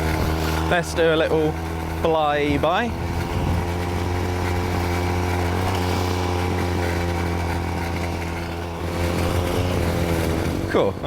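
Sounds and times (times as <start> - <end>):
two-stroke moped engine running: 0.0 - 11.0.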